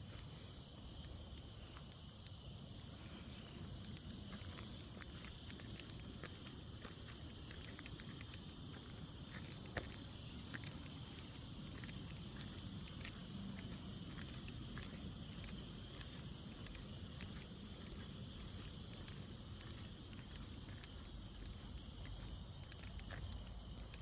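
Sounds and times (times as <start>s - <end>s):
insect chorus buzzing: 0.0s - 24.0s.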